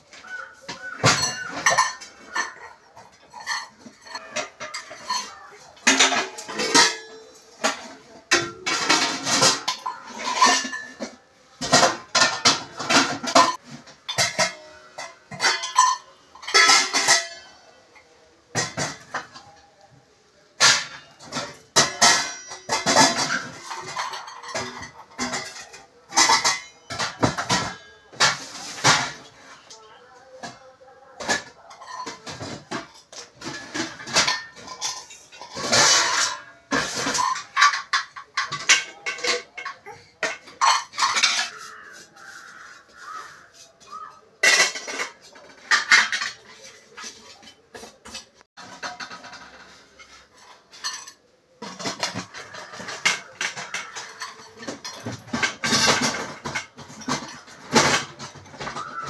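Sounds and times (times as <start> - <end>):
pots and pans clanking: 0.0 - 19.9, 20.5 - 29.8, 30.4 - 59.0.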